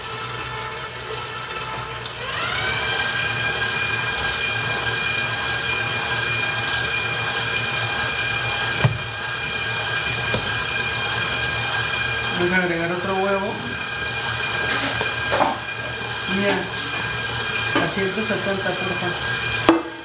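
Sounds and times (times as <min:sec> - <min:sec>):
stand mixer motor whining: 0:00.0 - 0:20.0.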